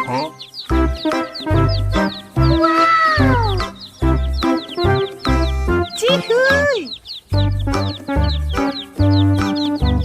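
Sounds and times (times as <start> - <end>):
upbeat children's background music: 0.0 - 10.0.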